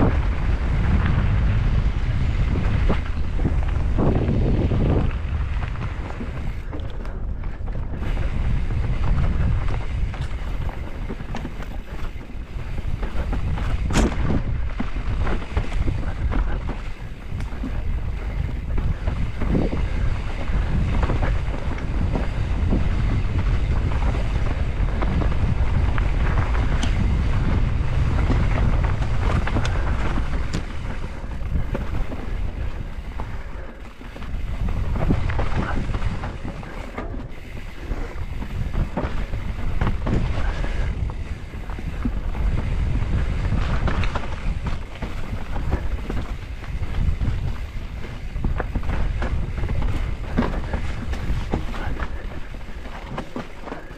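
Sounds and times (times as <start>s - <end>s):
bike clicks and rattles: 0.0s - 53.9s
tyres rumbling over dirt trail: 0.0s - 53.9s
wind buffeting microphone: 0.0s - 53.9s.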